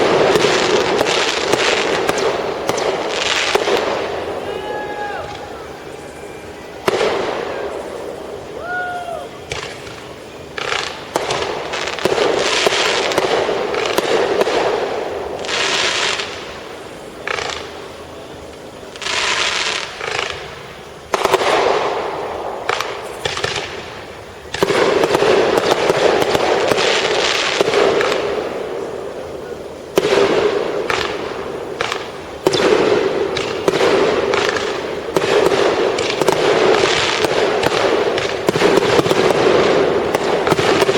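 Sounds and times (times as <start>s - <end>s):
fireworks bangs: 0.0s - 40.9s
fireworks crackling and hissing: 0.0s - 40.9s.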